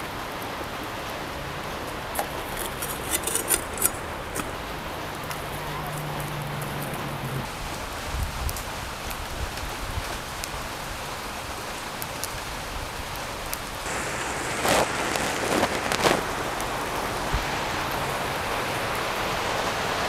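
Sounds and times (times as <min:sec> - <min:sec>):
wood fire crackling: 0:01.1 - 0:20.0.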